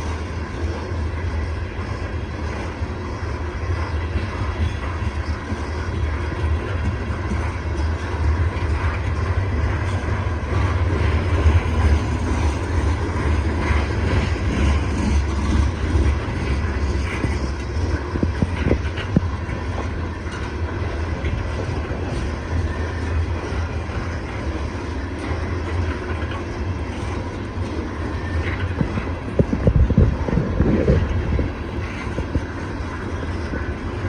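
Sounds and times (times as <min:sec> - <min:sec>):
train cars rumbling past: 0:00.0 - 0:34.0.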